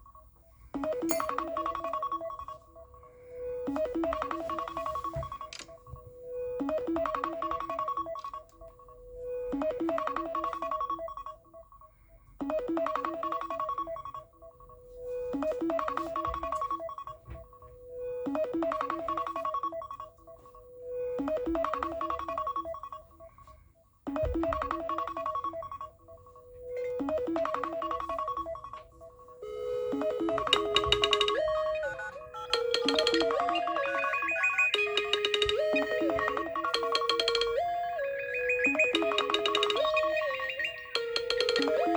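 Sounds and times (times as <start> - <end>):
phone ringtone melody: 0.0 - 11.6, 12.4 - 23.5, 24.1 - 41.9.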